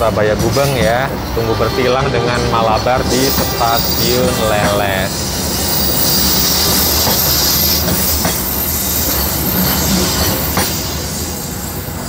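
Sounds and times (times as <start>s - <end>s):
train wheels rumbling on rails: 0.0s - 12.0s
wheels squealing hiss: 0.6s - 12.0s.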